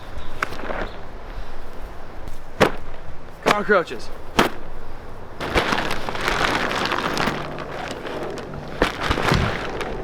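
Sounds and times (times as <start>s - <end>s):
rustling and scraping of boards: 0.3s - 10.0s.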